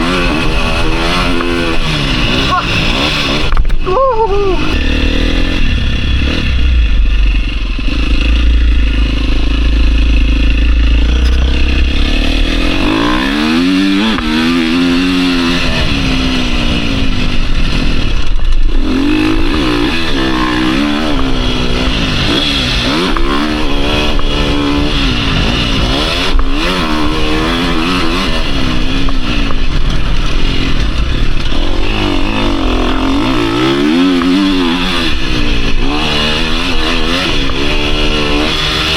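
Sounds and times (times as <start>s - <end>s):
heavy low rumble: 0.0s - 38.1s
motorcycle engine revving: 0.0s - 38.9s.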